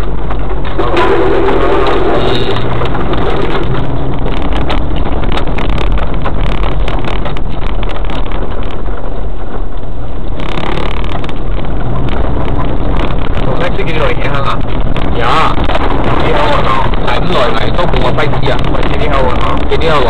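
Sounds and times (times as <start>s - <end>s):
vehicle engine rumble: 0.0s - 20.0s
vehicle knocks and rattles: 0.0s - 20.0s.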